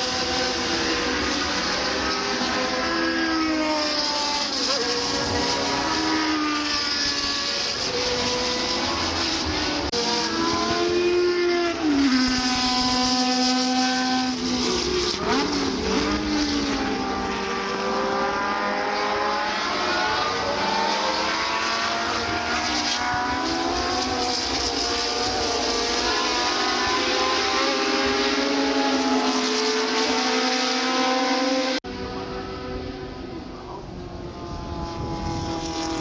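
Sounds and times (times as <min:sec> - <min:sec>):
race car engines at high revs: 0:00.0 - 0:36.0.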